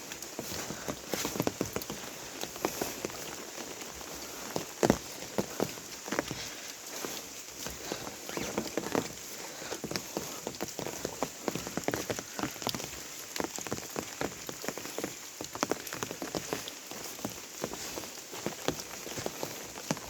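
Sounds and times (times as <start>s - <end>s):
rain drops hitting close: 0.0s - 20.0s
steady hiss of rain: 0.0s - 20.0s.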